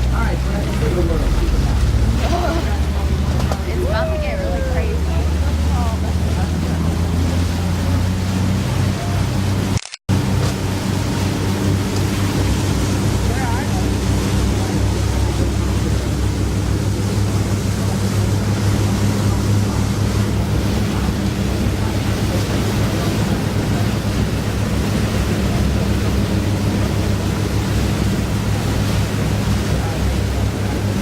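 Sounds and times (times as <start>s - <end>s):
boat engine humming: 0.0s - 31.0s
water rushing along hull: 0.0s - 31.0s.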